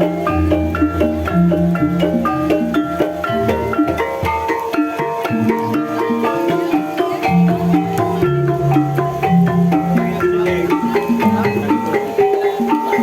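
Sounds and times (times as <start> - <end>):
metallophones ringing: 0.0 - 13.0
percussion strokes: 0.0 - 13.0.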